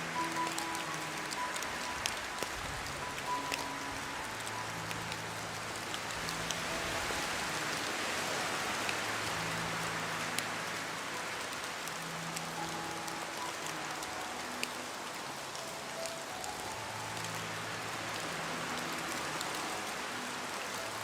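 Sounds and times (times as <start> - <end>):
rain hiss: 0.0 - 21.0.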